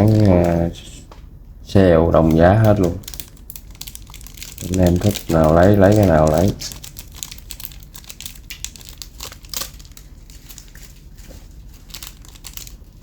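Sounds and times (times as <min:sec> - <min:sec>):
crinkling rustle: 0:00.0 - 0:01.3, 0:02.1 - 0:13.0.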